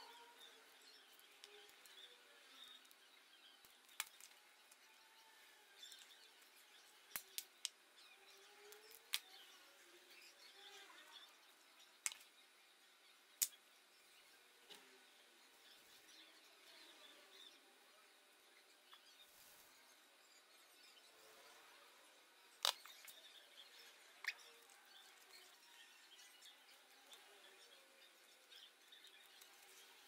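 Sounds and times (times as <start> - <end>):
faint bird chirping: 0.0 - 30.0.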